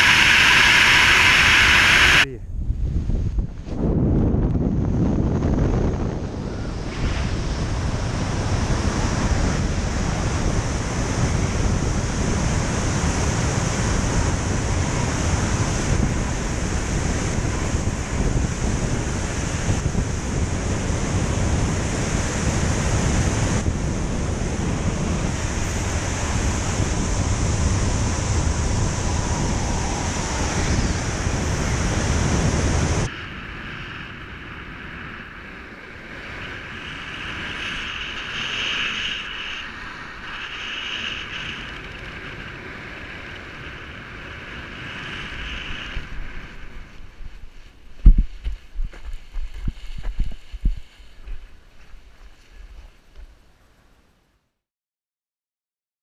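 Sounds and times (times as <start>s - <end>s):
wind buffeting microphone: 0.0s - 53.3s.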